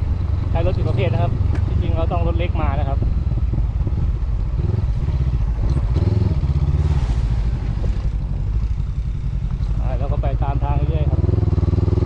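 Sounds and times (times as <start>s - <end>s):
motorcycle engine running: 0.0s - 12.0s
motorcycle rattling: 0.0s - 12.0s.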